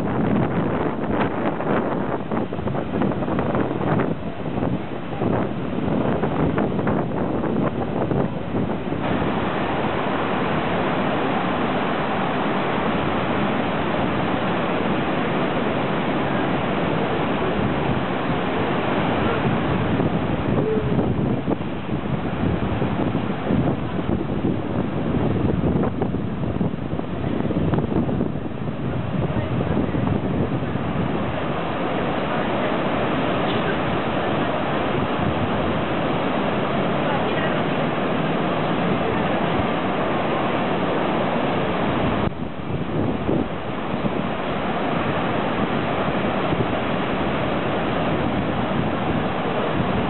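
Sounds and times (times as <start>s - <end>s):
surf breaking on beach: 0.0s - 50.0s.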